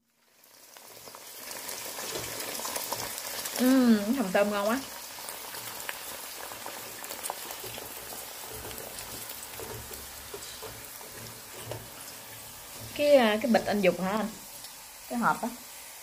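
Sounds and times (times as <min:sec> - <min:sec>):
oil sizzling in deep fryer: 0:00.0 - 0:16.0
small crackles: 0:00.4 - 0:15.1.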